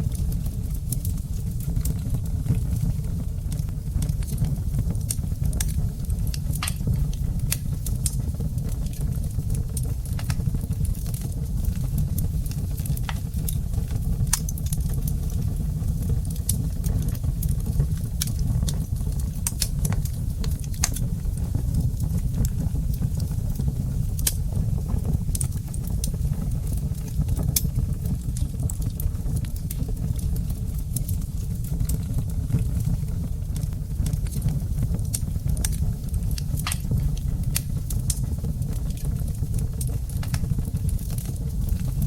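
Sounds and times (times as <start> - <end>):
low rumble of flames: 0.0 - 42.0
wood fire crackling and popping: 0.0 - 42.0.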